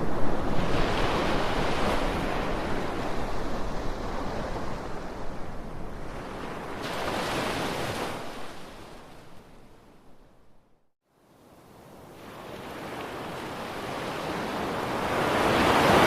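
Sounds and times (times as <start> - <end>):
ocean surf washing ashore: 0.0 - 10.0, 11.6 - 16.0.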